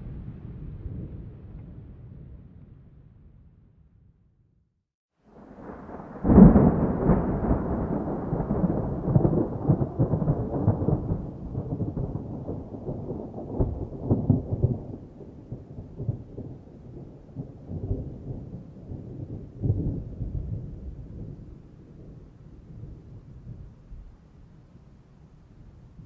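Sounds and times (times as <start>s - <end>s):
thunder clap and rumble: 0.0s - 3.3s, 5.3s - 24.1s.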